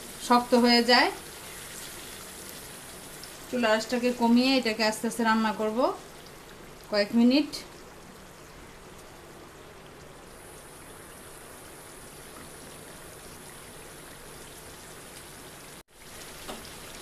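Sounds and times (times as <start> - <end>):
curry sauce bubbling and sizzling: 0.0 - 17.0.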